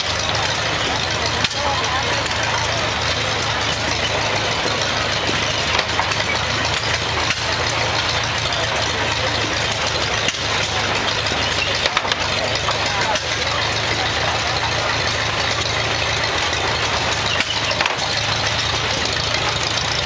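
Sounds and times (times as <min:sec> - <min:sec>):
hay baler clattering: 0:00.0 - 0:20.0
tractor engine running: 0:00.0 - 0:20.0.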